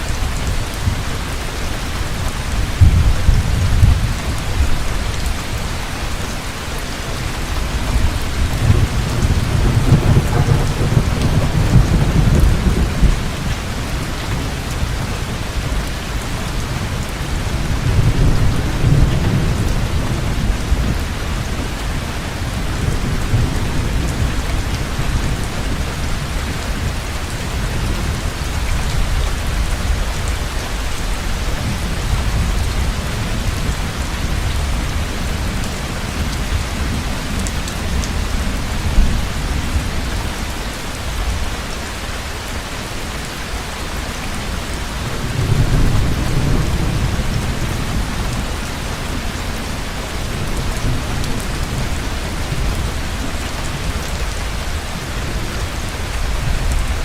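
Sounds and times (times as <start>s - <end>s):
heavy rain pouring: 0.0s - 57.0s
low rolling thunder: 1.9s - 5.4s, 7.6s - 40.4s, 44.5s - 57.0s.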